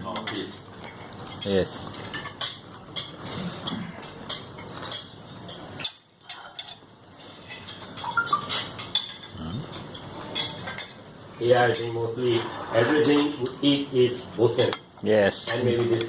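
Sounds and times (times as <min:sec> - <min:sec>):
cutlery and dishes clinking: 0:00.0 - 0:16.0.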